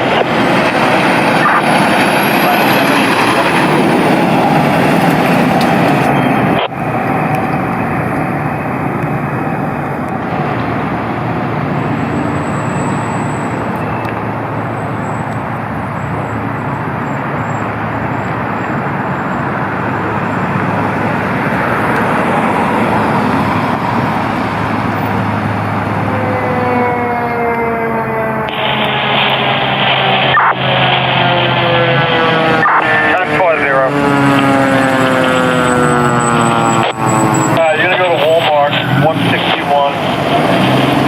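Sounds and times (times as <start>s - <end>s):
heavy diesel engines: 0.0s - 41.0s.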